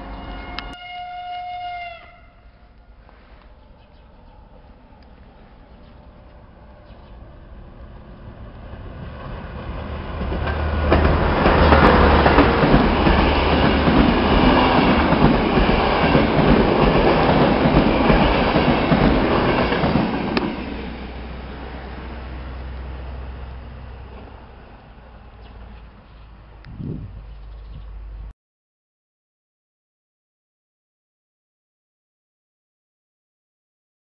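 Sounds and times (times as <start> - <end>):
passenger train passing: 0.0 - 27.3.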